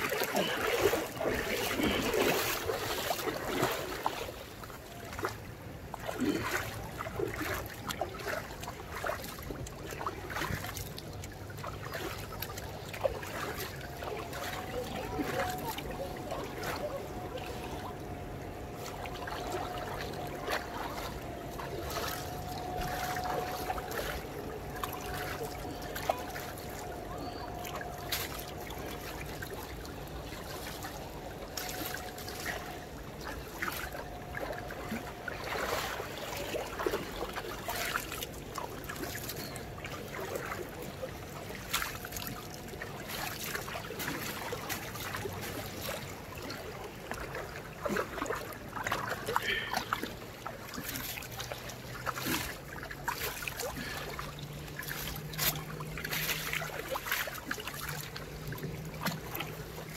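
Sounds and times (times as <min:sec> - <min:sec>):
stream trickling over pebbles: 0:00.0 - 0:59.9.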